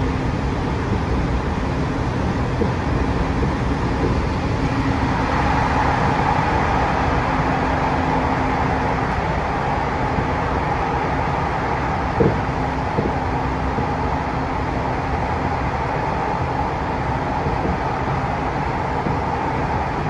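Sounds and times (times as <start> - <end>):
rushing rail noise: 0.0 - 20.0
steady hum: 0.0 - 20.0
subway train rumbling in tunnel: 0.0 - 20.0.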